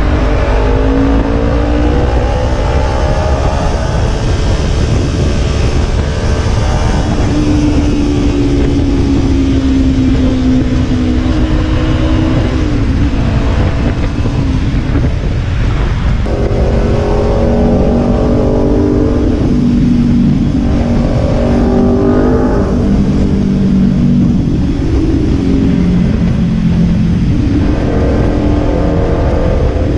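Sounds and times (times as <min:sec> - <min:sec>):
motorcycle engine: 0:00.0 - 0:29.9
wind rumbling on microphone: 0:00.0 - 0:29.9.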